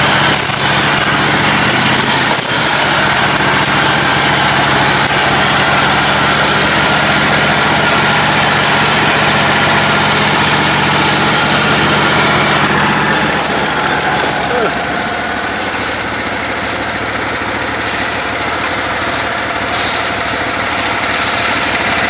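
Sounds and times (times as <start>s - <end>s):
lawn tractor engine running: 0.0s - 22.0s.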